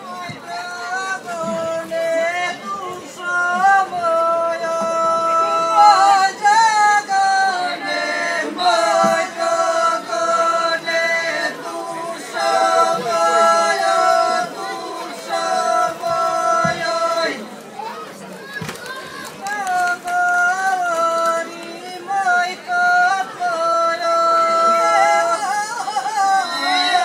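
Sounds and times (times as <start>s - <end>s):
group singing unaccompanied: 0.0s - 17.6s, 19.5s - 27.0s.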